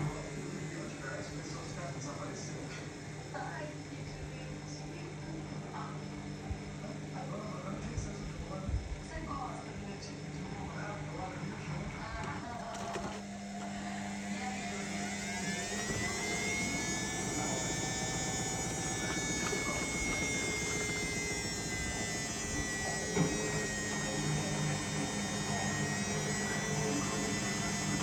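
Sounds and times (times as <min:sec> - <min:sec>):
washing machine drum motor whine: 0:00.0 - 0:28.0.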